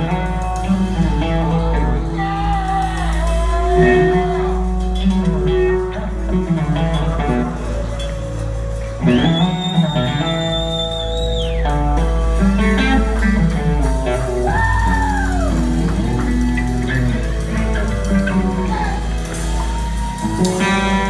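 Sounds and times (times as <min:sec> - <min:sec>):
blues-rock band playing: 0:00.0 - 0:21.0
electric slide guitar solo: 0:00.0 - 0:21.0.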